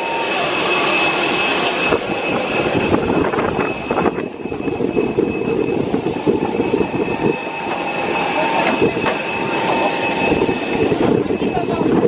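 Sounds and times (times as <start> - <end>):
thin steady whine: 0.0 - 12.0.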